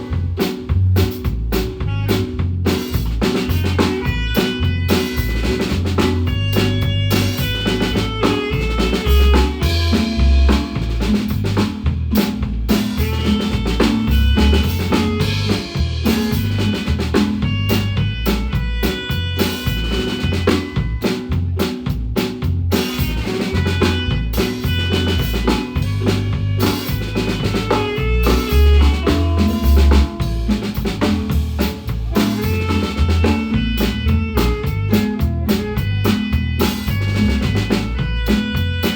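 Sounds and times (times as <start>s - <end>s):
marimba notes: 0.0s - 21.8s, 22.8s - 38.9s
drum kit beat: 0.0s - 38.9s.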